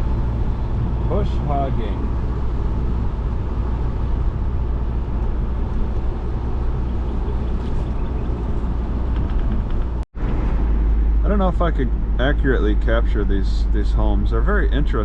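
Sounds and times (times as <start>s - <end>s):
car driving heard from inside: 0.0s - 15.0s.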